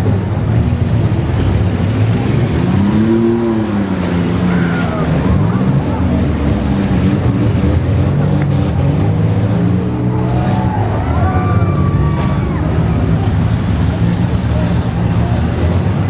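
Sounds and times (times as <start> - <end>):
engines running and revving: 0.0 - 16.0.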